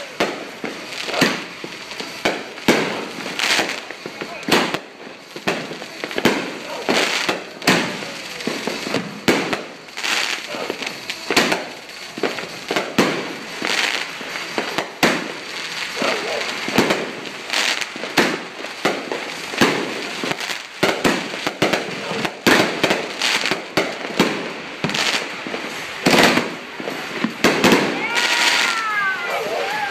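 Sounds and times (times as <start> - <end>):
fireworks bangs and pops: 0.0 - 29.9
fireworks crackling: 0.0 - 29.9.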